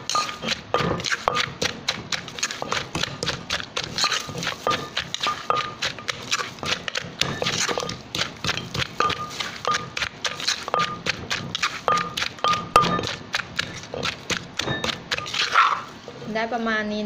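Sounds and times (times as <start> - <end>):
wooden pestle pounding in mortar: 0.0 - 15.9
spoon scraping mortar: 0.0 - 16.4.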